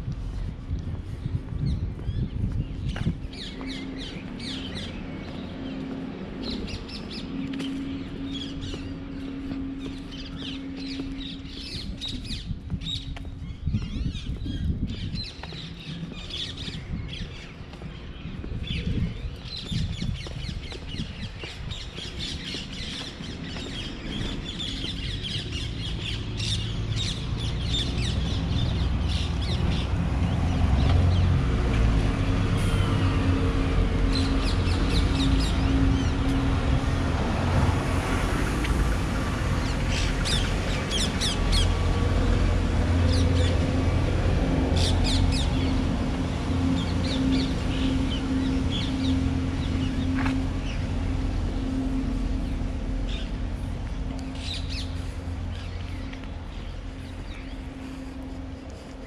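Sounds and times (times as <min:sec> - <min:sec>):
low engine-like rumble: 0:00.0 - 0:59.0.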